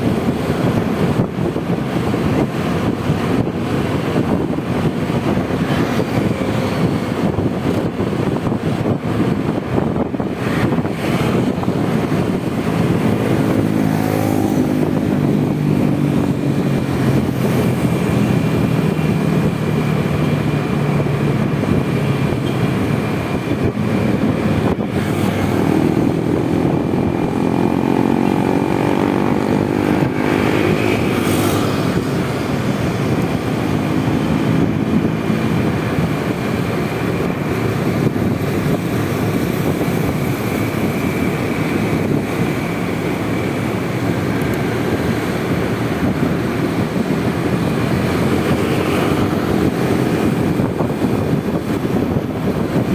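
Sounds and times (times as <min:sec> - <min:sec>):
scooter engine hum: 0:00.0 - 0:52.9
wind buffeting microphone: 0:00.0 - 0:52.9.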